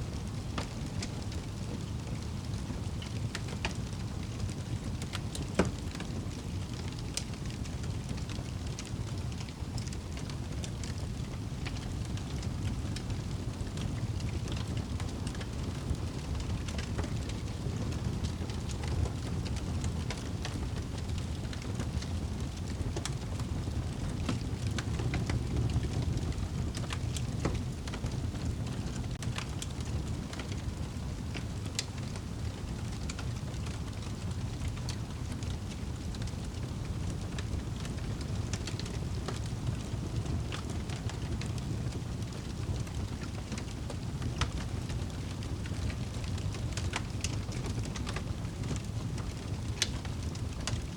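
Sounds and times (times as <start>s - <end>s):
wood fire crackling: 0.1s - 50.9s.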